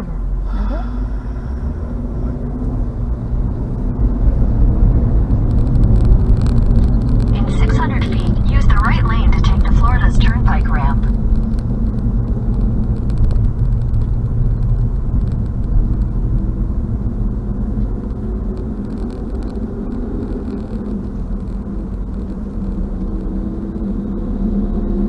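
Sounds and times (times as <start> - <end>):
road and engine noise: 0.0 - 25.0.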